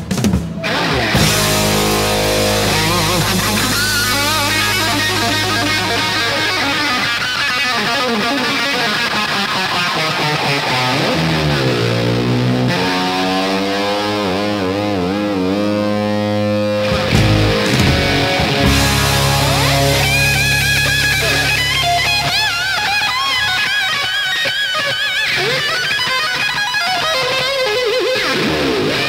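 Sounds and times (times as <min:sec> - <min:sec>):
rock music with distorted guitar: 0:00.4 - 0:29.0.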